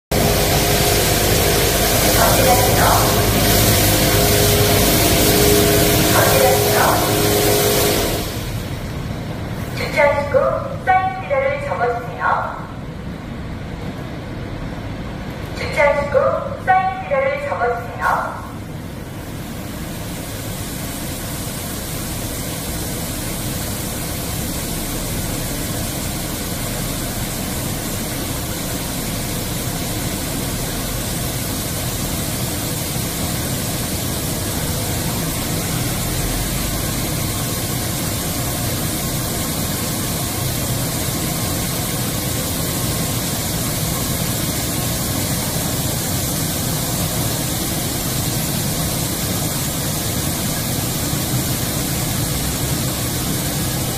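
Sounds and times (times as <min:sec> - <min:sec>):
car wash jets hissing: 0:00.0 - 0:53.9
low machine rumble: 0:00.0 - 0:53.9.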